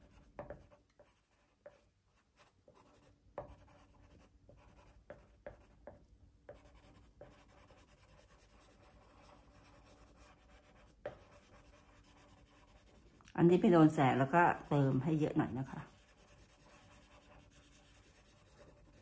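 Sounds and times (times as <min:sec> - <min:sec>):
pencil scratching on paper: 0:00.0 - 0:19.0.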